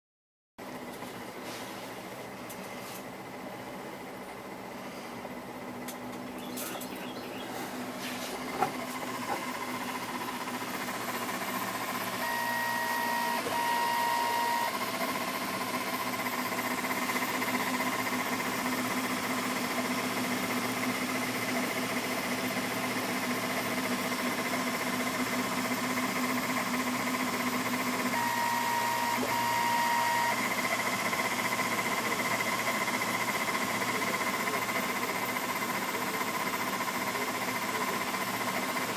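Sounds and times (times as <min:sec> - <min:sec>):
stepper motors humming and whining: 0:00.8 - 0:38.9
higher motor whine: 0:00.9 - 0:38.9.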